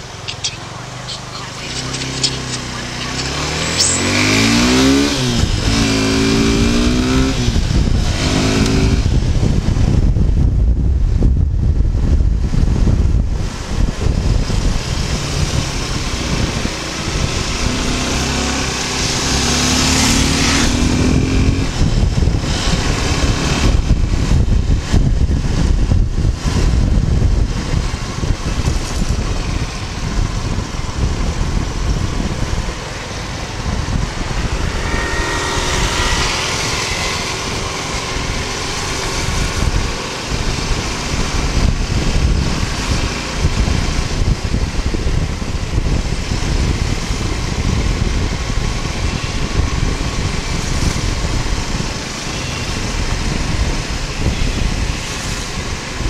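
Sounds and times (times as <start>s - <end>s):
motorcycle engine running: 0.0s - 56.0s
wind rumbling on microphone: 0.0s - 56.0s.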